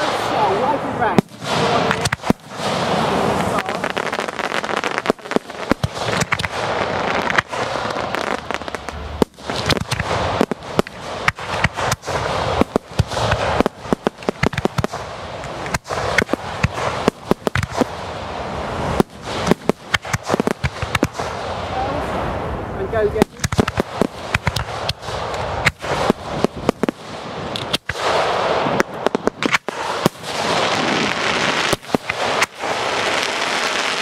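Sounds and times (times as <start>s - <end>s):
fireworks bangs and cracks: 0.0s - 34.0s
fireworks rushing hiss: 0.0s - 34.0s.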